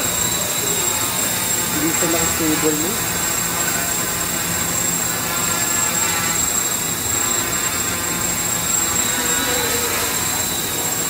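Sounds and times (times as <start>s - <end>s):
drone motors buzzing whir: 0.0s - 11.0s.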